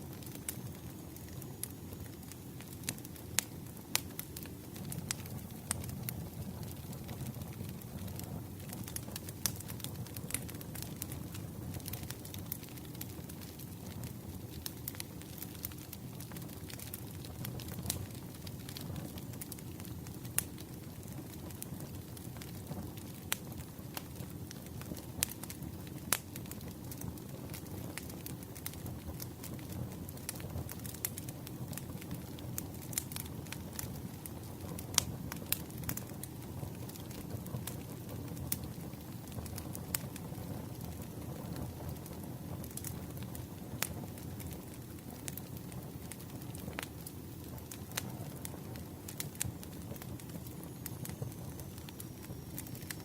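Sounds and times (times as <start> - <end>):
campfire crackling and popping: 0.0 - 53.0
low steady fire rumble: 0.0 - 53.0.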